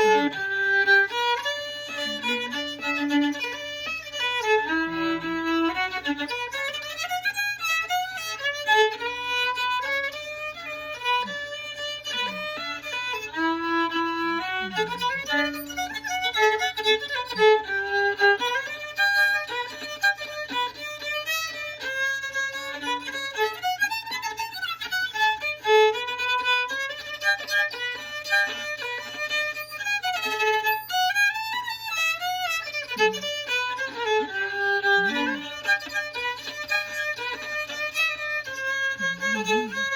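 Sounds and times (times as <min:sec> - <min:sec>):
solo fiddle playing lively tune: 0:00.0 - 0:39.9.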